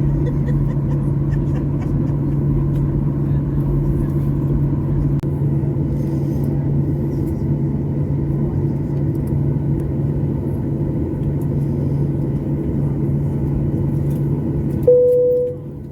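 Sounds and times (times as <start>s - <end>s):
airliner cabin hum: 0.0s - 15.9s.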